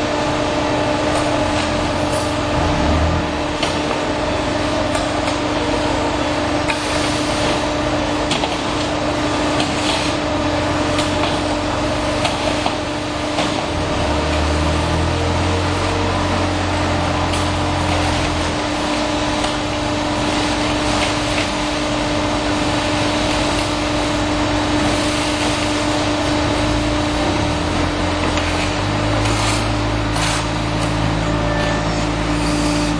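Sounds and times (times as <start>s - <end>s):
deep machine rumble: 0.0s - 7.6s, 10.3s - 32.9s
pipe making machine running: 0.0s - 32.9s.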